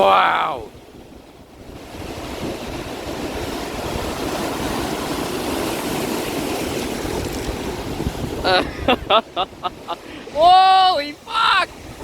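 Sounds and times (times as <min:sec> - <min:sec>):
waves crashing on shore: 0:00.0 - 0:12.0.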